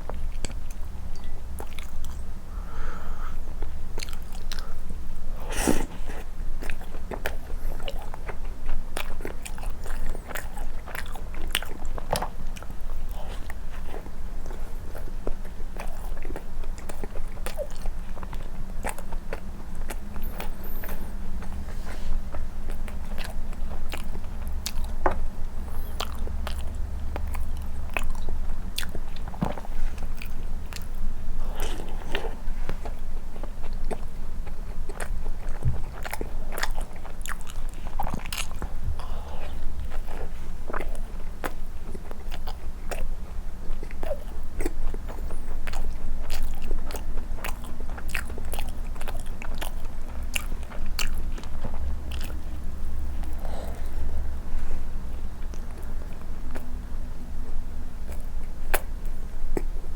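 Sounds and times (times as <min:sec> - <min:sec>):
wet chewing and mouth clicks: 0:00.0 - 0:57.0, 0:58.0 - 0:59.8
steady low hum: 0:00.0 - 0:59.9.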